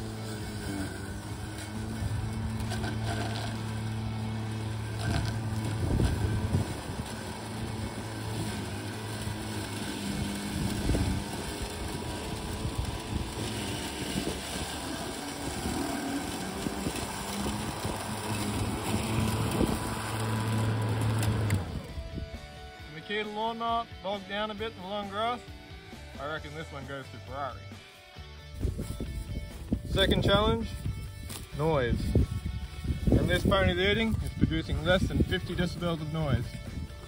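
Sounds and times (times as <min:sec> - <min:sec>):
lawn mower running: 0:00.0 - 0:37.0.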